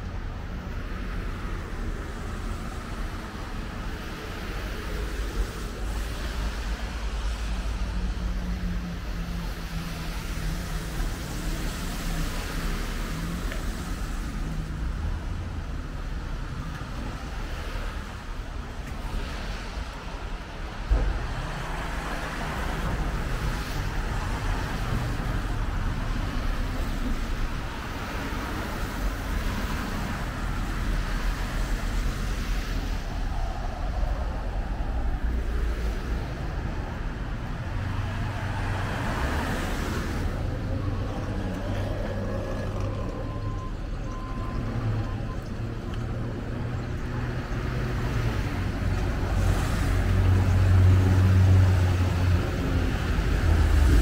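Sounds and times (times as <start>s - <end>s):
low traffic rumble: 0.0s - 54.0s
tyres hissing on wet road: 0.7s - 43.5s, 46.5s - 54.0s.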